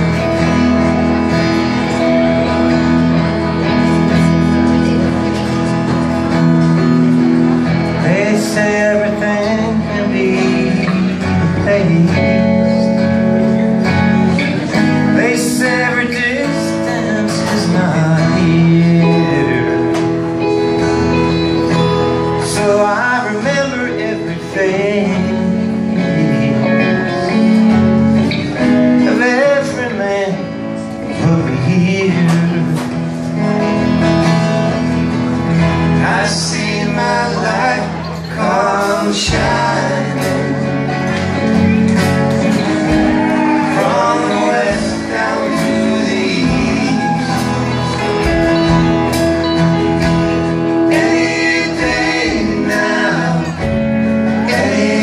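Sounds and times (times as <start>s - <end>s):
guitar: 0.0s - 55.0s
live band playing: 0.0s - 55.0s
person singing: 6.0s - 33.4s, 35.6s - 55.0s.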